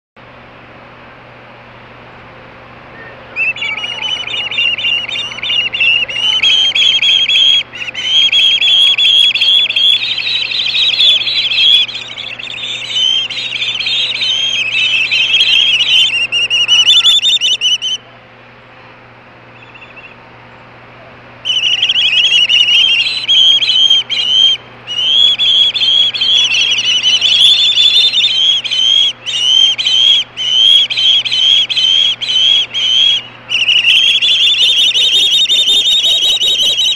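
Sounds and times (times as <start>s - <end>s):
ospreys screaming: 3.4s - 18.0s, 21.5s - 36.9s.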